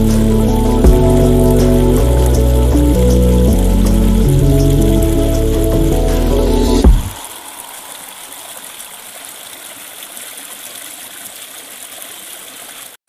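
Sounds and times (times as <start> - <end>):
stream flowing over stones: 0.0 - 13.0.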